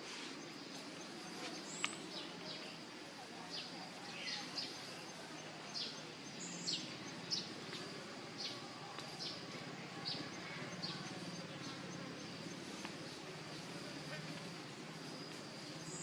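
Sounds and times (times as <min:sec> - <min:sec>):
faint insect-like buzz: 0:00.0 - 0:16.0.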